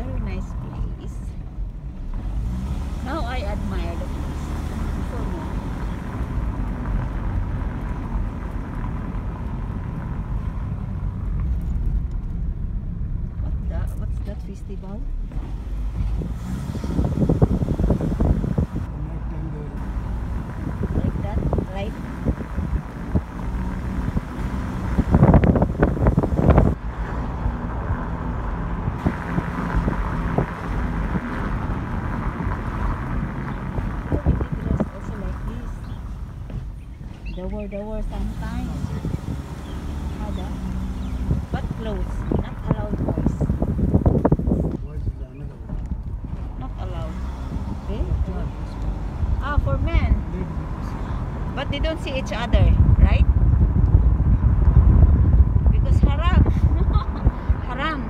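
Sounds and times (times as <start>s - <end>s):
wind buffeting microphone: 0.0s - 18.9s, 19.8s - 58.0s
car driving rumble: 0.0s - 58.0s.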